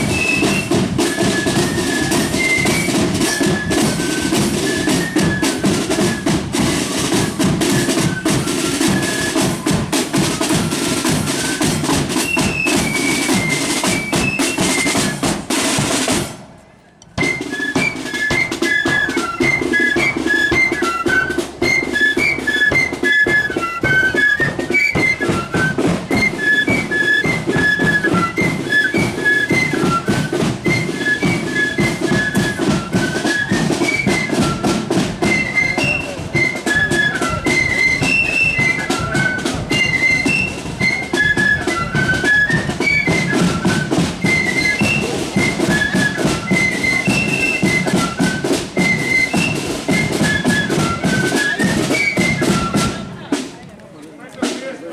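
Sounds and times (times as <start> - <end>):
drums beating time: 0.0 - 16.5, 17.2 - 54.9
flutes playing in unison: 0.0 - 53.7.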